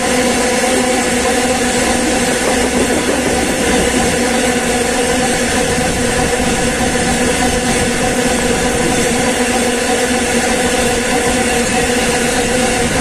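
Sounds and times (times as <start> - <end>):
steady hum: 0.0 - 12.0
train wheels rumbling on rail: 0.0 - 13.0.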